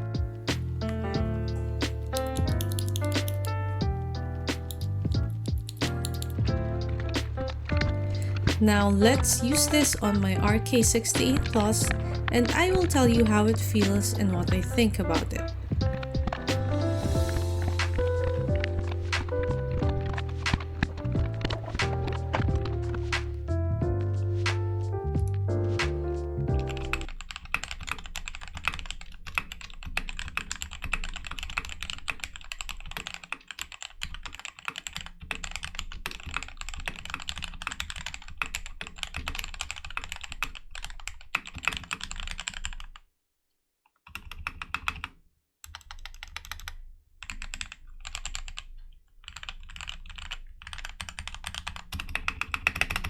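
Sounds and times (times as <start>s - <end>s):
mechanical keyboard typing: 0.1s - 3.6s, 4.5s - 43.0s, 44.0s - 53.0s.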